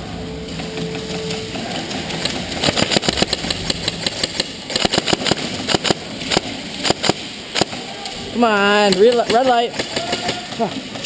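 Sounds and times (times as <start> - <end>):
faint steady hum: 0.0 - 11.0
sharp clicks and knocks: 0.5 - 7.8, 8.8 - 11.0.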